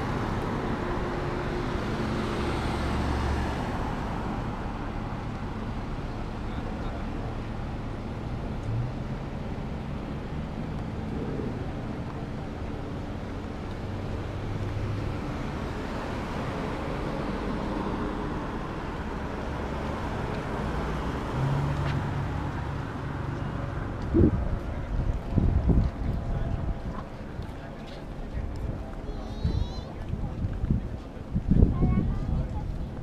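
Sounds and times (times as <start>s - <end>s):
cars driving past: 0.0s - 29.0s.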